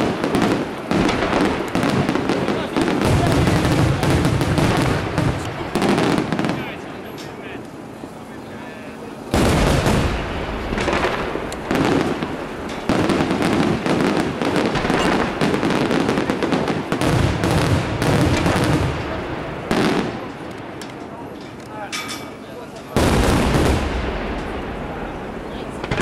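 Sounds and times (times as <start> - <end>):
firework bangs and crackling: 0.0 - 21.6, 22.6 - 26.0.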